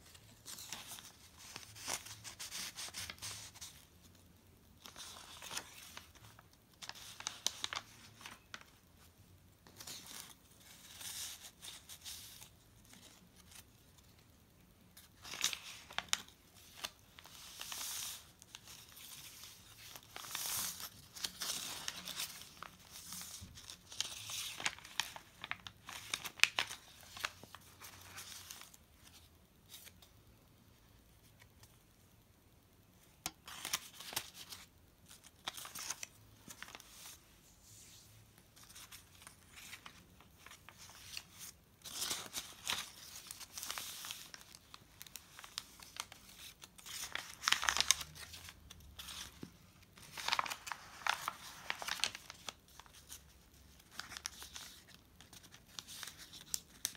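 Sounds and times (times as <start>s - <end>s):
paper pages rustling: 0.0s - 3.9s, 4.8s - 8.8s, 15.0s - 30.1s, 33.2s - 56.9s.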